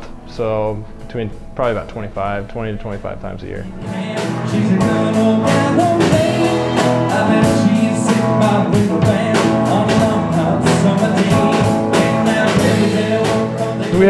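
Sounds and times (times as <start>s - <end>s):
rock band playing: 0.0s - 14.0s
man singing: 2.6s - 14.0s.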